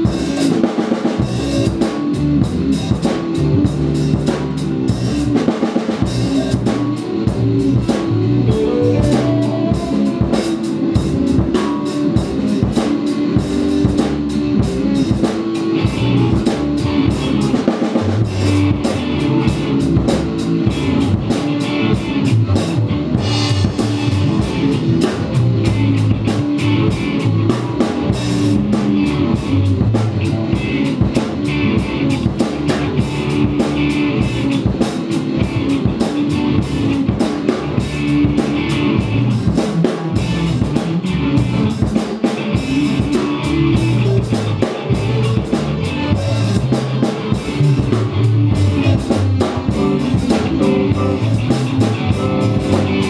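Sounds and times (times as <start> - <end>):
bass guitar: 0.0 - 53.0
drum kit beat: 0.0 - 53.0
electric guitars: 0.0 - 53.0.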